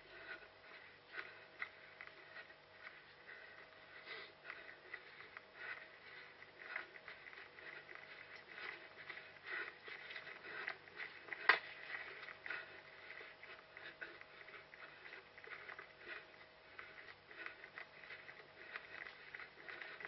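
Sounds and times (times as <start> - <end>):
running footsteps: 0.0 - 20.0
rustling: 0.0 - 20.0.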